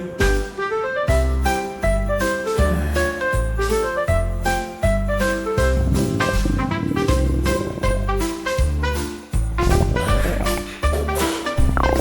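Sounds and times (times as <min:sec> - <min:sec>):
upbeat jazzy music: 0:00.2 - 0:12.0.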